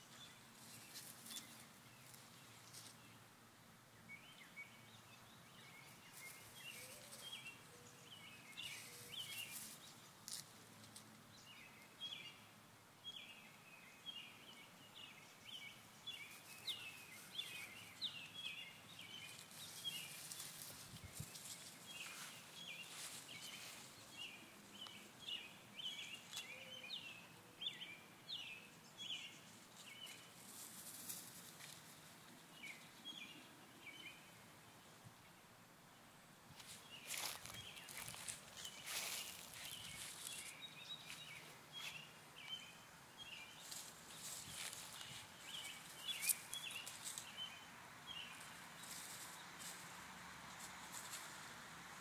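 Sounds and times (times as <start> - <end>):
light rustling hiss: 0.0 - 3.4, 5.2 - 11.6, 14.5 - 26.6, 29.0 - 35.2, 36.4 - 52.0.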